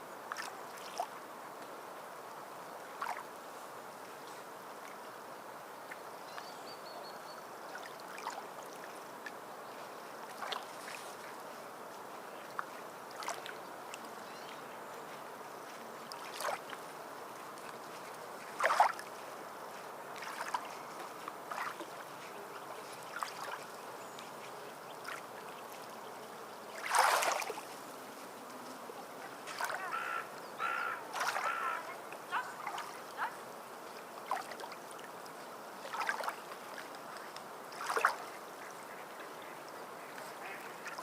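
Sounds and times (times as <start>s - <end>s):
water lapping and splashing: 0.3s - 1.2s, 2.3s - 5.1s, 7.5s - 28.4s, 29.2s - 41.0s.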